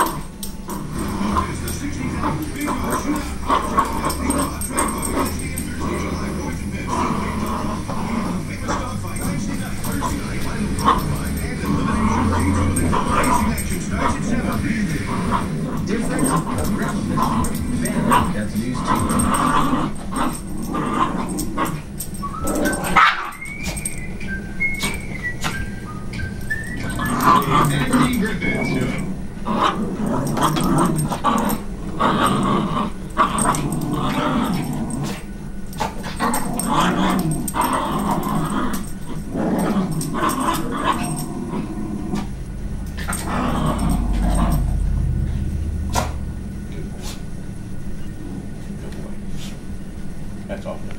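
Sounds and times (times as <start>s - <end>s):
small dogs vocalising: 0.0s - 46.3s
low hum: 0.0s - 50.9s.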